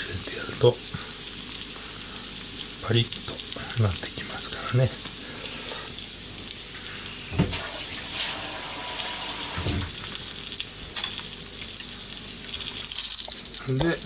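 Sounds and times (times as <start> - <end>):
dumplings sizzling in oil: 0.0 - 14.0.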